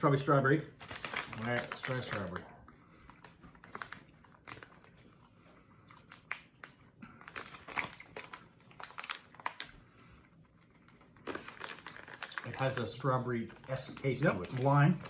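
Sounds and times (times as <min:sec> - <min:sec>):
plastic candy packet crinkling: 0:00.0 - 0:15.0.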